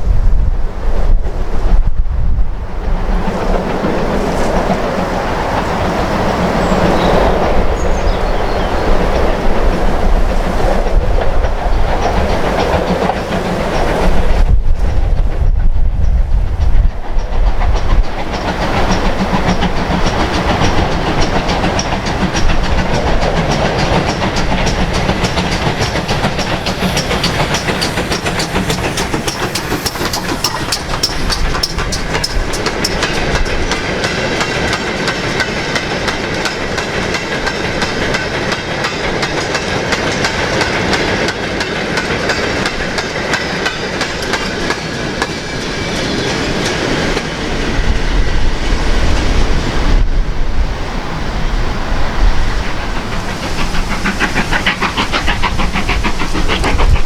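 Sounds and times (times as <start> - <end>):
train wheels clattering over rails: 1.0 - 57.0.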